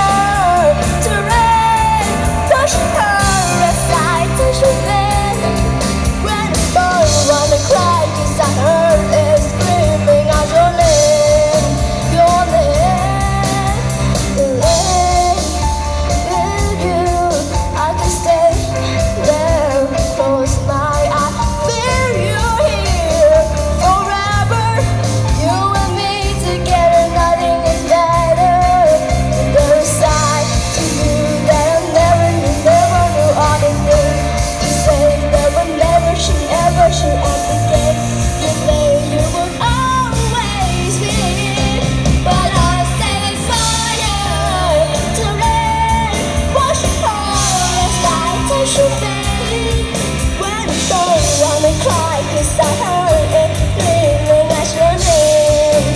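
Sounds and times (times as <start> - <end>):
person singing: 0.0 - 55.9
rock band playing live: 0.0 - 55.9.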